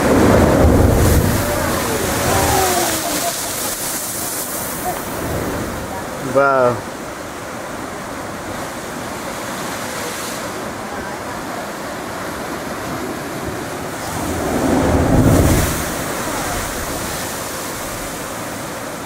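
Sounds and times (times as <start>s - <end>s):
rushing surge of water: 0.0s - 19.0s
sea surf churning: 0.0s - 19.0s.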